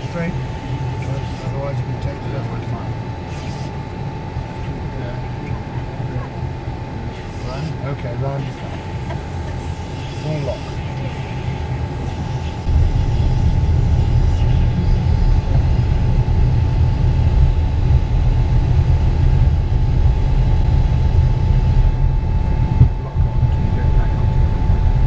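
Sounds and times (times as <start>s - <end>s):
jet aircraft engines running: 0.0s - 25.0s.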